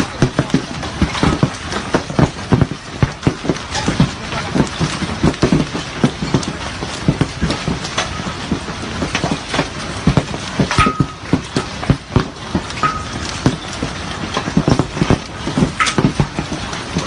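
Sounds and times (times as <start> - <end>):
hailstones pelting hard surfaces: 0.0 - 17.0.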